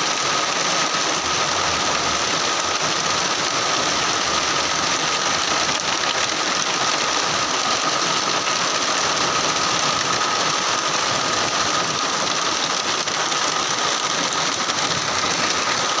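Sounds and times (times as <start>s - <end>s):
rain falling on foliage: 0.0s - 16.0s.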